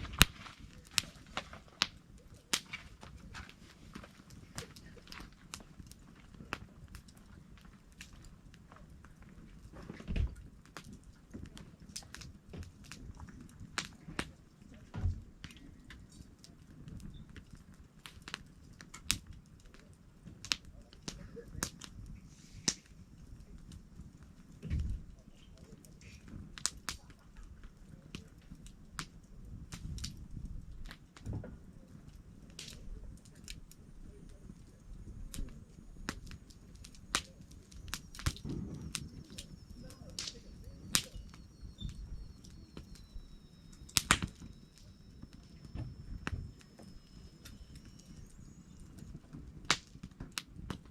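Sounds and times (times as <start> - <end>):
campfire crackling: 0.0 - 50.9
sharp pops from fire: 0.0 - 50.9.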